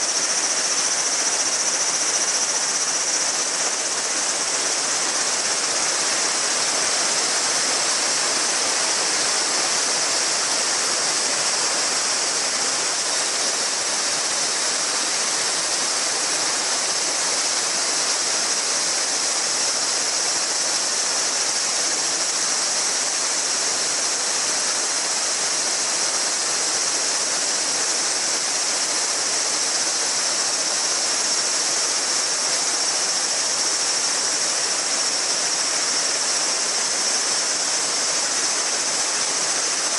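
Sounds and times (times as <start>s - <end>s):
cicadas buzzing: 0.0s - 39.9s
river babbling over stones: 0.0s - 39.9s.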